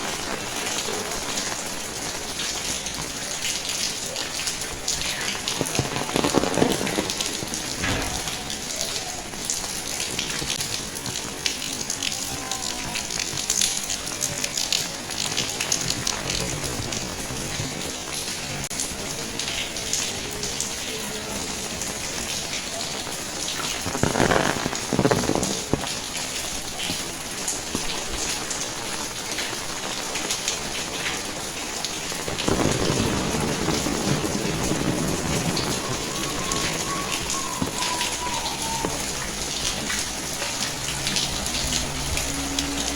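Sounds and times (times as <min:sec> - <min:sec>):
rain on hard surfaces: 0:00.0 - 0:42.9.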